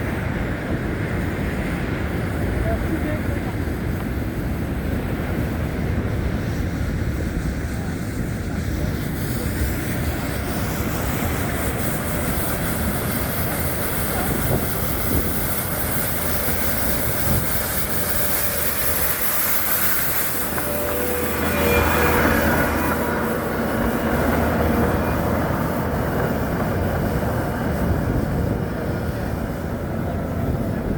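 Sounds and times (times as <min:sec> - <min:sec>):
passing traffic rumble and hiss: 0:00.0 - 0:30.9.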